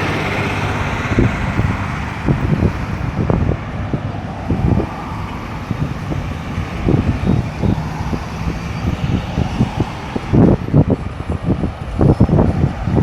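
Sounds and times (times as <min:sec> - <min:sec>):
traffic rumble: 0:00.0 - 0:13.0
vehicles passing: 0:00.0 - 0:13.0.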